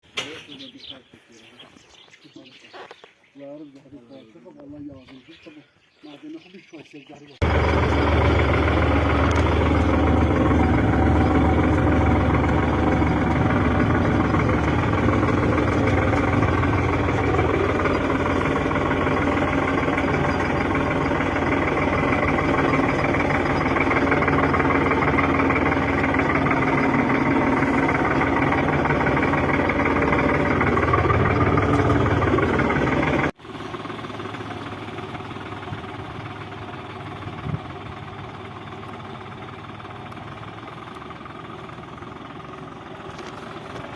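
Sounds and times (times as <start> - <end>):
tractor diesel engine running: 7.3 - 43.9.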